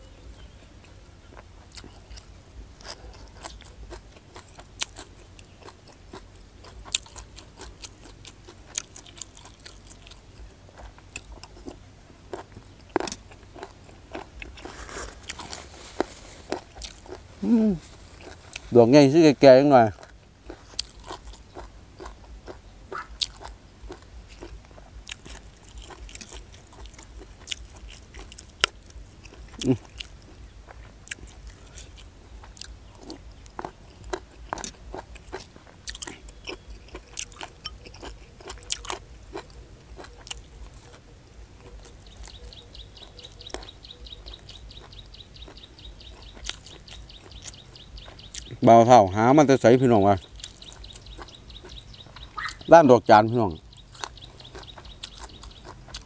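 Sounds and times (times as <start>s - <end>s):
person chewing crunchy mushrooms: 0.2s - 48.7s, 49.5s - 52.7s, 53.5s - 56.0s.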